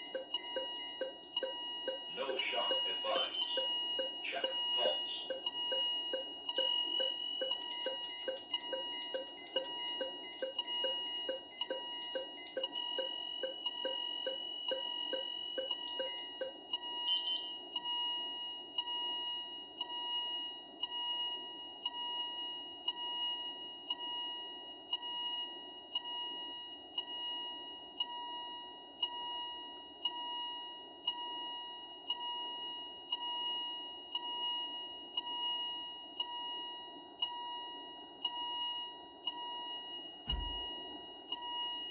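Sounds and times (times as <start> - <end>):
monitor alarm beeps: 0.0 - 41.9
steady high-pitched alarm tone: 0.0 - 41.9.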